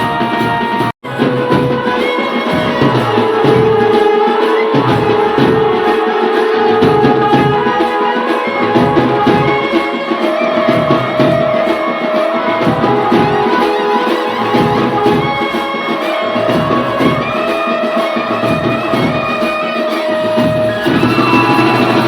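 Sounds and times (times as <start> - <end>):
drum rhythm: 0.0 - 22.0
held melody notes: 0.0 - 22.0.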